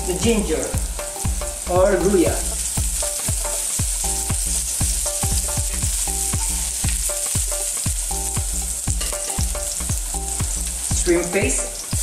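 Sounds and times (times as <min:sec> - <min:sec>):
food sizzling in hot oil: 0:00.0 - 0:12.0
low thumping beat: 0:00.0 - 0:12.0.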